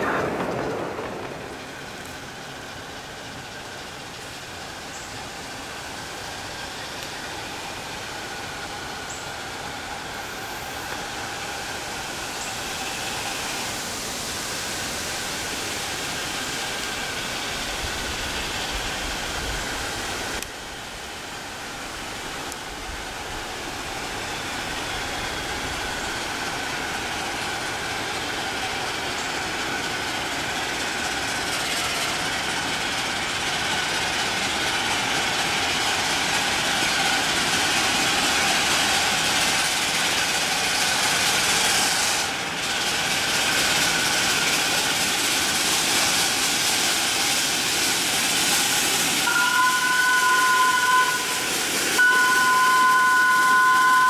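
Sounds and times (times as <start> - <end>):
steam locomotive rushing: 0.0 - 54.0.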